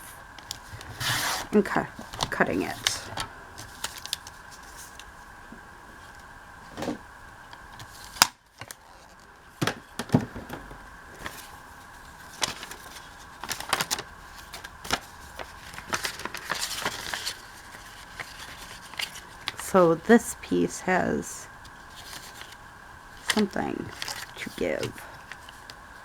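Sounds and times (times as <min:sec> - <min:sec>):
faint steady background hum: 0:00.0 - 0:26.0.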